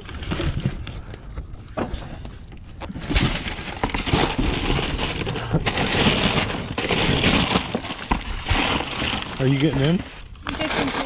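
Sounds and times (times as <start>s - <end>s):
plastic bags and cardboard rustling: 0.0s - 11.0s.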